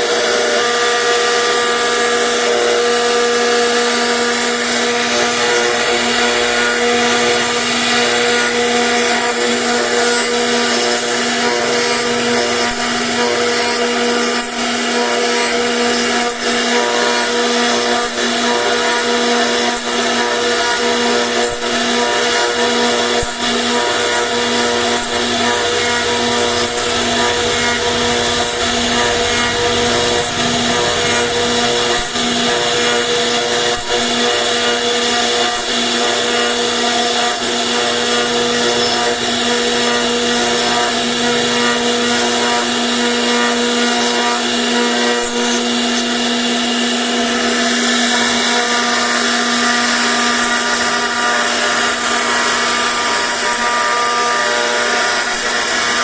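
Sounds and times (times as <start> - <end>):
router spindle whining carving wood: 0.0 - 56.0.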